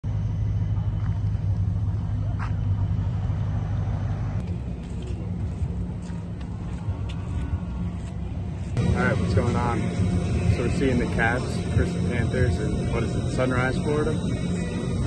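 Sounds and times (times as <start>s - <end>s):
car traffic rumble: 0.0s - 15.0s.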